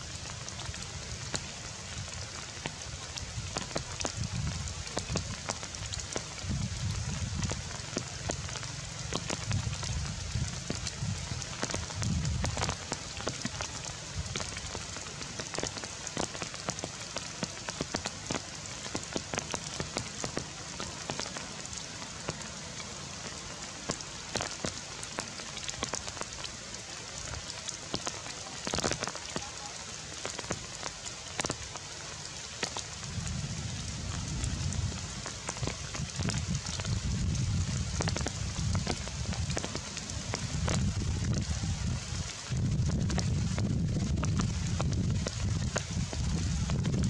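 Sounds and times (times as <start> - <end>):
rain on foliage: 0.0 - 47.0.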